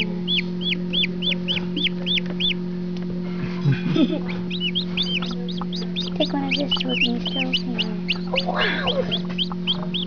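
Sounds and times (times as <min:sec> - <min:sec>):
chicks peeping: 0:00.0 - 0:10.0
steady low hum: 0:00.0 - 0:10.0.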